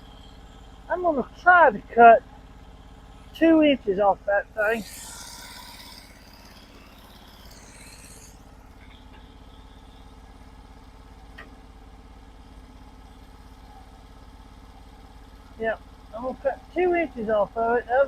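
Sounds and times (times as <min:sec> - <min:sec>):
sawmill engine idling: 0:00.0 - 0:18.0.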